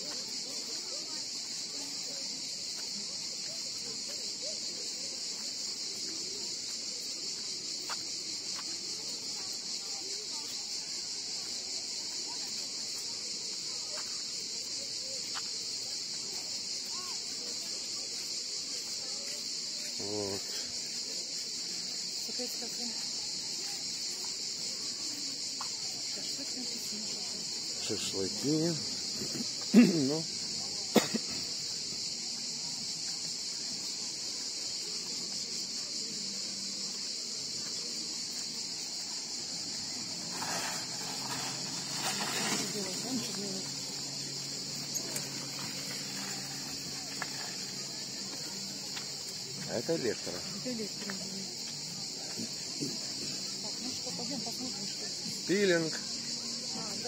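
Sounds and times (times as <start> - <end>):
cicadas droning: 0.0 - 57.0
faint voices talking: 0.0 - 57.0.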